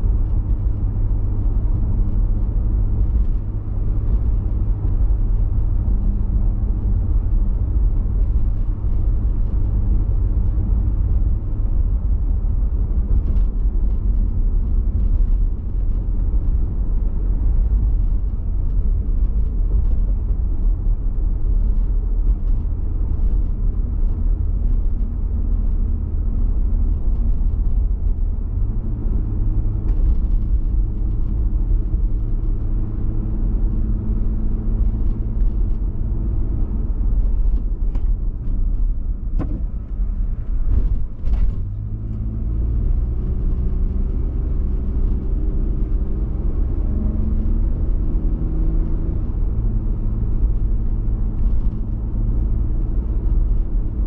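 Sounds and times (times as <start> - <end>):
car driving heard from cabin: 0.0 - 54.0.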